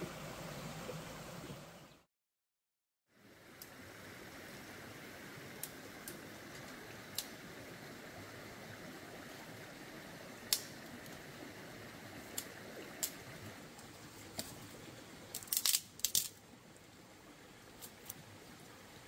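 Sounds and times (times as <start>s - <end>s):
stream rushing: 0.0s - 1.9s, 3.1s - 19.0s.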